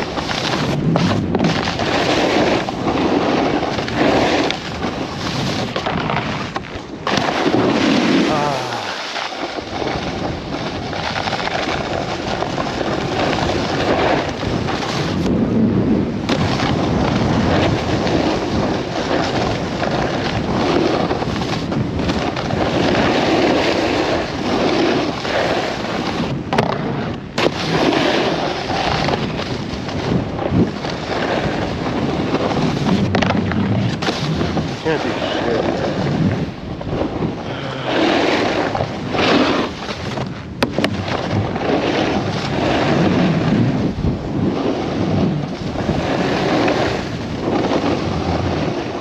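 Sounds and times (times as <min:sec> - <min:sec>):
snowboard scraping over snow: 0:00.0 - 0:49.0
wind buffeting microphone: 0:00.0 - 0:49.0.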